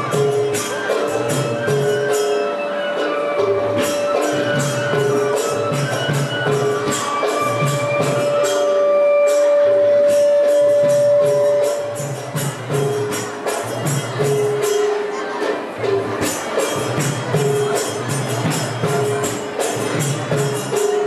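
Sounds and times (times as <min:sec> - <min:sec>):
drumming: 0:00.0 - 0:21.0
metal percussion steady beat: 0:00.0 - 0:21.0.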